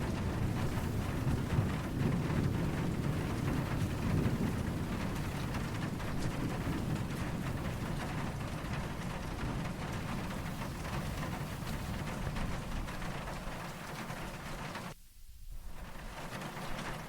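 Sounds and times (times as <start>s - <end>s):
distant thunder rumble: 0.0s - 15.0s, 15.6s - 17.0s
steady rain: 0.0s - 17.0s.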